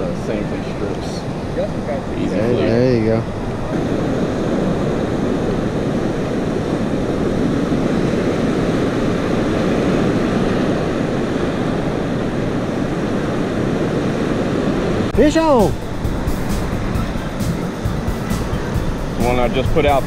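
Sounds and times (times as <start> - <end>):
surf washing on sandy beach: 0.0 - 20.0.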